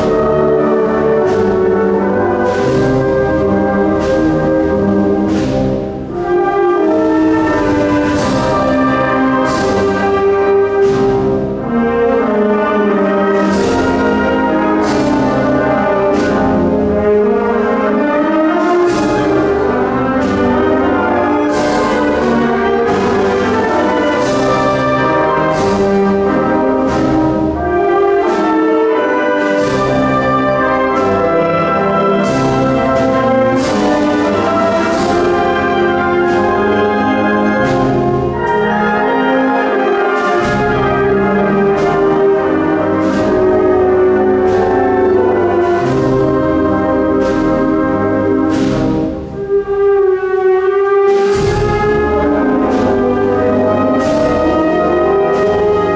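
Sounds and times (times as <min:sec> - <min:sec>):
brass playing: 0:00.0 - 0:55.9
percussion strokes: 0:00.0 - 0:55.9
wind band playing a march: 0:00.0 - 0:55.9.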